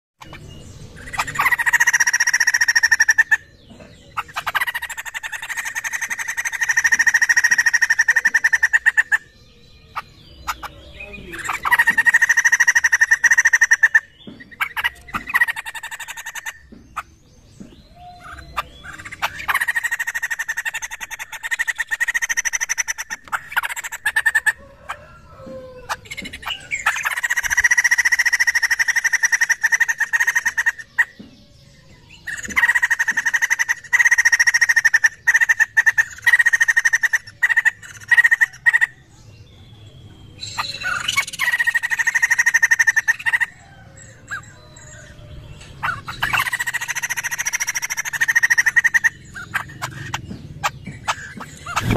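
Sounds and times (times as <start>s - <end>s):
laughingthrush chattering calls: 0.2s - 9.3s, 9.9s - 17.2s, 17.8s - 31.2s, 32.2s - 39.1s, 40.4s - 51.9s.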